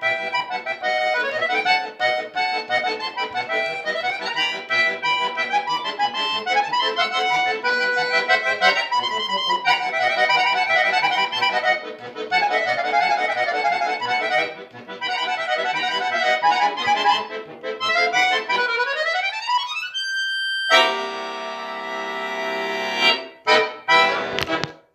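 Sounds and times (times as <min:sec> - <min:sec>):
button accordion playing: 0:00.0 - 0:24.9.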